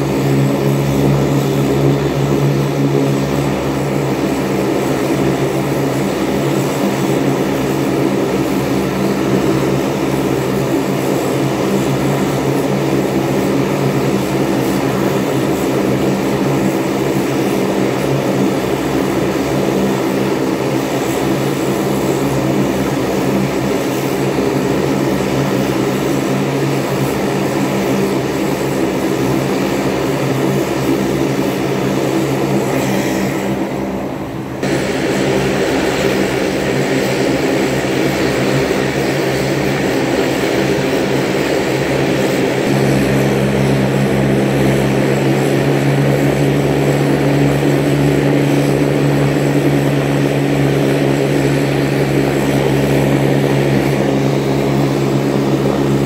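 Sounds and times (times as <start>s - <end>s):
turboprop engines running: 0.0s - 56.0s.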